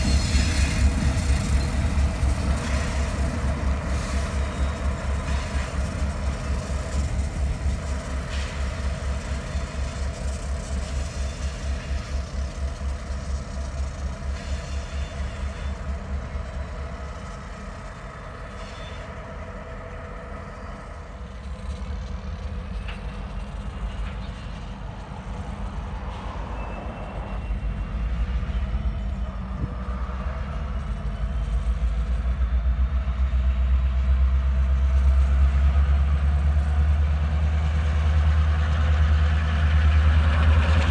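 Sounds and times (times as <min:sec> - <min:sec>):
diesel locomotive engine rumble: 0:00.0 - 0:40.9.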